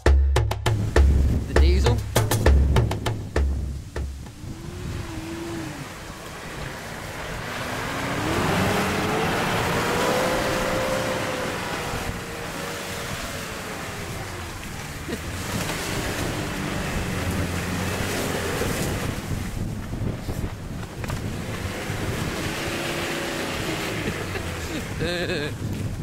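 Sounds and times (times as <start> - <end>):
diesel engine revving: 0.7 - 25.7
wind noise on microphone: 0.7 - 26.0.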